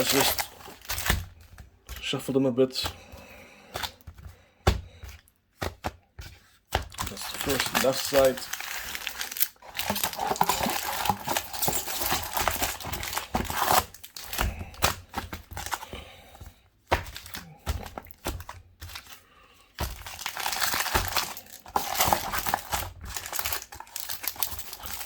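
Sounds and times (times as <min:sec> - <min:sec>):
foil packs crinkling: 0:00.0 - 0:25.0.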